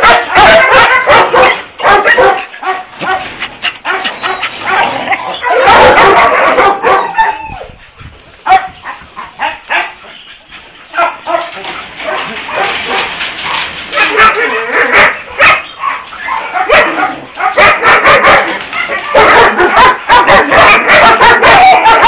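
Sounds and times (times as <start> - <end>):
many dogs barking: 0.0 - 22.0.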